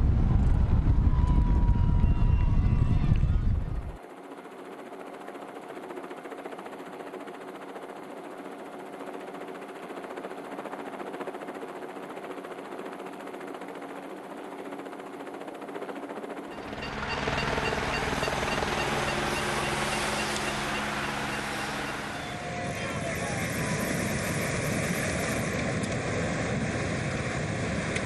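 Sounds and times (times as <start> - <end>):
helicopter rotor and turbine: 0.0 - 28.0.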